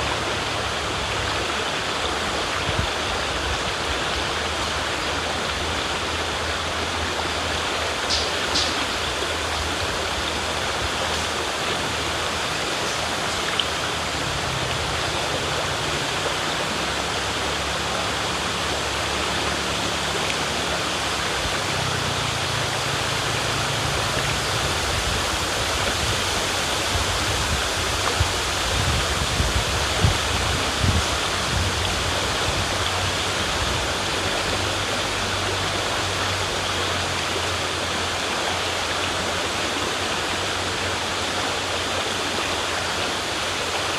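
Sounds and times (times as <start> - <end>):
river flowing over rocks: 0.0 - 43.9
water splashes and drips: 0.1 - 43.9.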